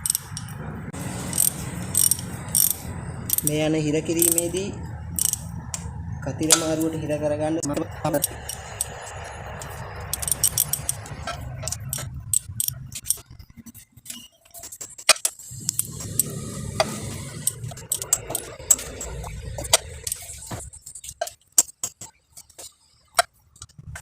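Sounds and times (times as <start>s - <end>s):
metal tool clicking on nuts: 0.0s - 0.6s, 1.2s - 7.0s, 7.6s - 13.4s, 15.0s - 23.8s.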